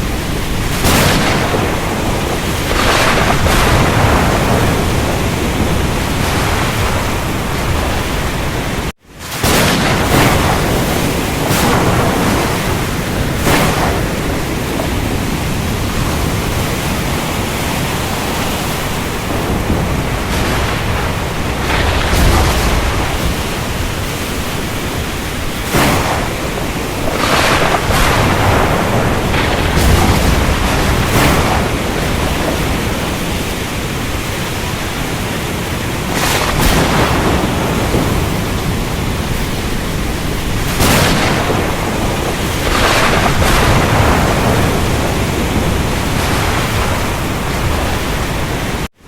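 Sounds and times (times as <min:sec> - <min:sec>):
thunder cracks: 0:00.0 - 0:48.9
rain: 0:00.0 - 0:49.0
surf: 0:00.0 - 0:49.0
wind: 0:00.0 - 0:49.0.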